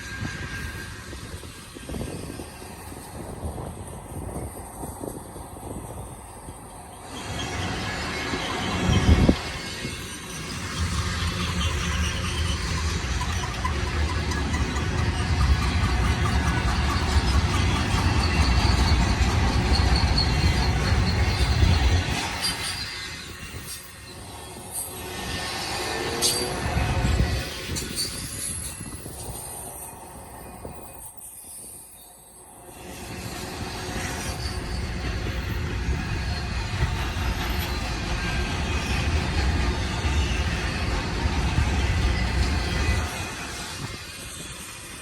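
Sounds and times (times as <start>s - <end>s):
train wheels rumbling on rail: 0.0s - 45.0s
faint high wheel squeal: 4.9s - 45.0s.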